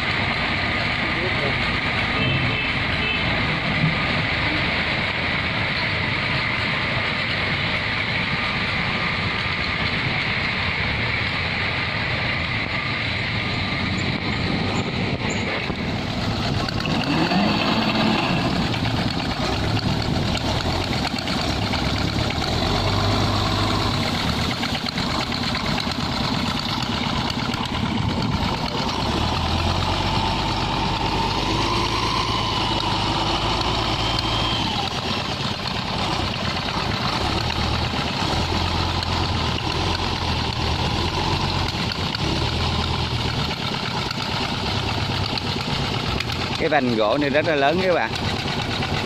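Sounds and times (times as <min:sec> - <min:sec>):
boat diesel engine droning: 0:00.0 - 0:49.0.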